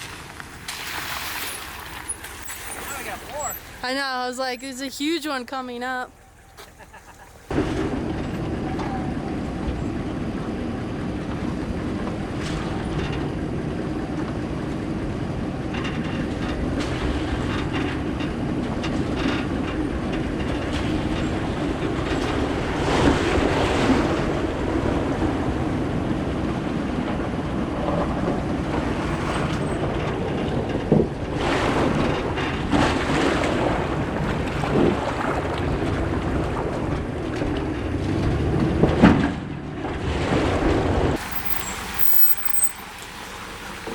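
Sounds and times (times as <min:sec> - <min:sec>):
water splashing against truck: 0:00.0 - 0:05.2, 0:06.2 - 0:43.9
truck engine and tyres rumbling: 0:00.0 - 0:43.9.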